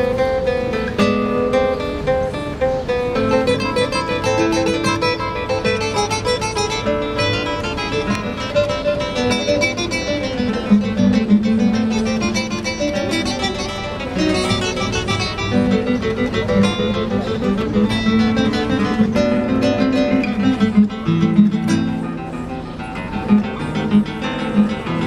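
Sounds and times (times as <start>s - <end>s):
classical guitar duet: 0.0s - 25.0s.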